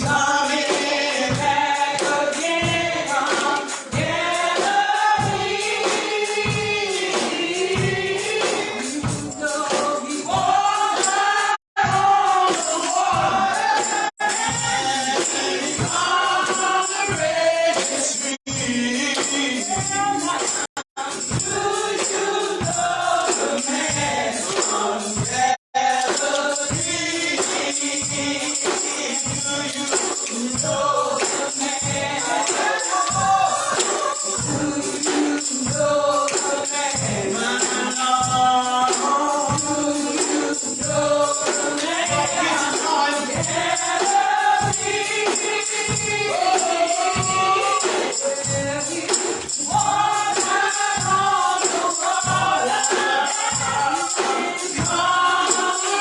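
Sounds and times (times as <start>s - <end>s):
gospel choir singing: 0.0s - 56.0s
tambourine beat: 0.0s - 56.0s.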